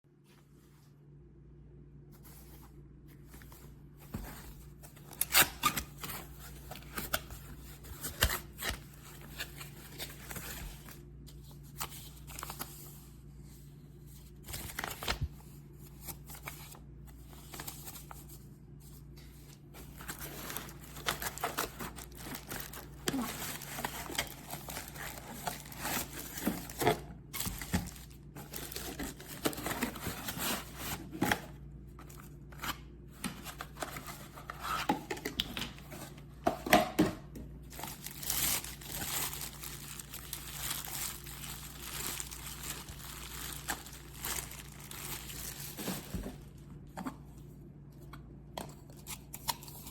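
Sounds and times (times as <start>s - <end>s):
rustling and crinkling: 2.1s - 36.4s, 37.6s - 47.5s.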